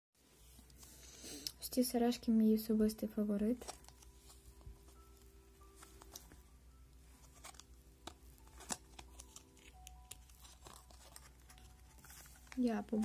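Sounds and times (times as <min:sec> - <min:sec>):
faint quiet music: 0:00.2 - 0:13.0.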